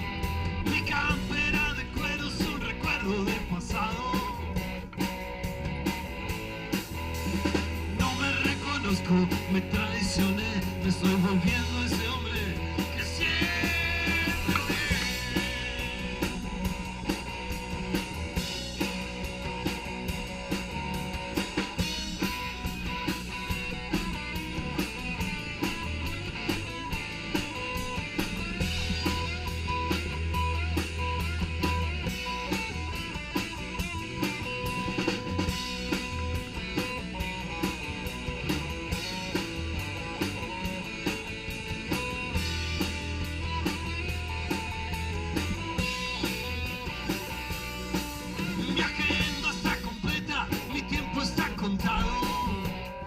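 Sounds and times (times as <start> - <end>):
bass: 0.0 - 53.0
drum kit beat: 0.0 - 53.0
electric guitar: 0.0 - 53.0.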